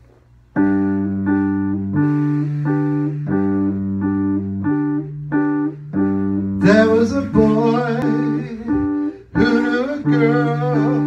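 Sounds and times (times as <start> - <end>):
electric piano chords: 0.0 - 11.0.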